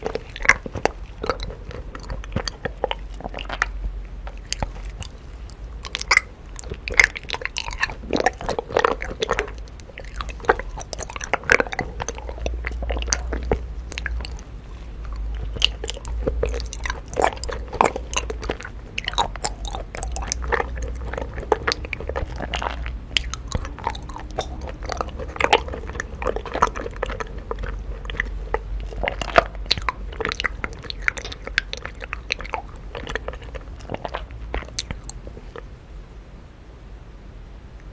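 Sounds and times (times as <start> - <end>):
person chewing honeycomb: 0.0 - 35.8.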